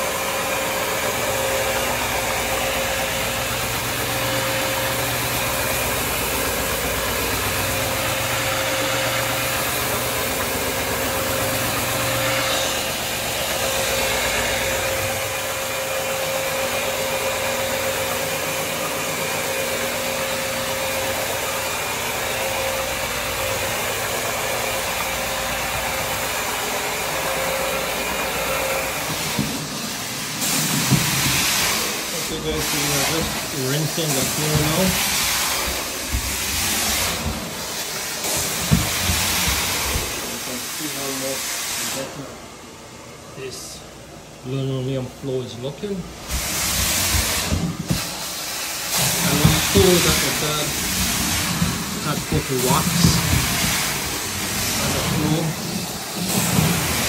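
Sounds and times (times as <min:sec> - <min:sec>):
brushes hissing on wet floor: 0:00.0 - 0:42.2, 0:45.6 - 0:57.0
floor scrubbing machine whine: 0:00.0 - 0:57.0.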